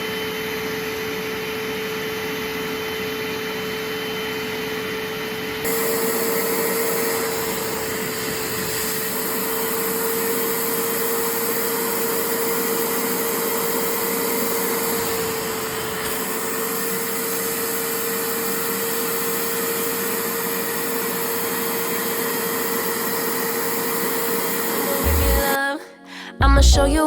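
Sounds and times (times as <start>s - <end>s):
electric appliance motor whine: 0.0s - 25.2s.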